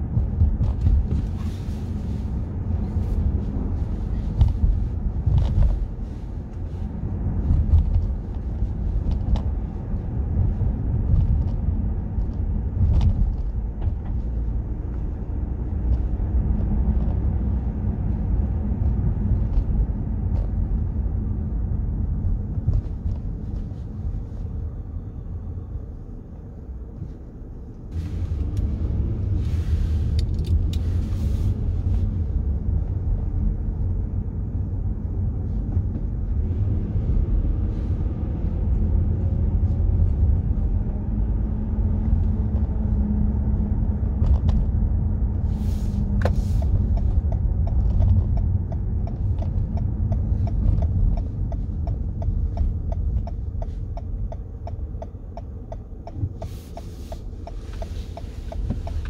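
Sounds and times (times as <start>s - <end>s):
car engine and road rumble: 0.0s - 59.0s
passing traffic: 0.0s - 59.0s.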